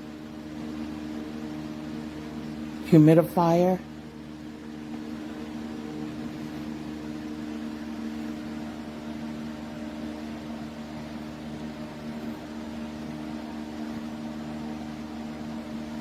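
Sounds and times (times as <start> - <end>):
humidifier humming and hissing: 0.0 - 16.0.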